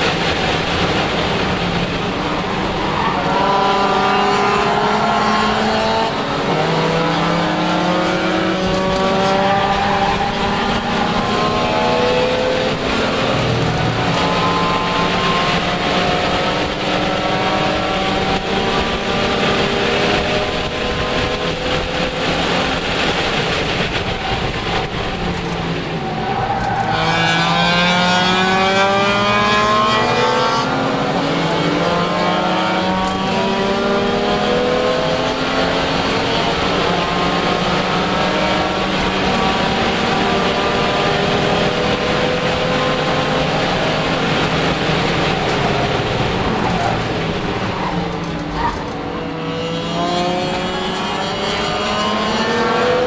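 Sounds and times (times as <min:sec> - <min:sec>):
race car engine accelerating: 0:00.0 - 0:53.0
road and wind noise: 0:00.0 - 0:53.0.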